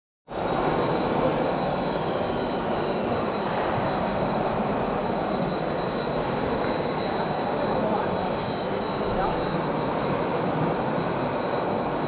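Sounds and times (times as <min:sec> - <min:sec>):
high-pitched whine: 0:00.3 - 0:12.0.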